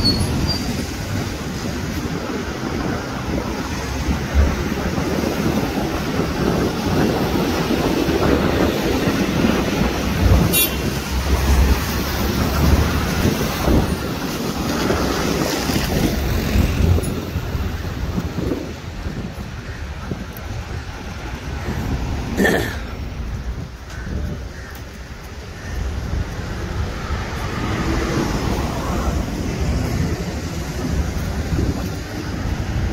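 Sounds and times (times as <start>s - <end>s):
road traffic passing: 0.0s - 32.9s
wind rumbling on microphone: 0.0s - 32.9s.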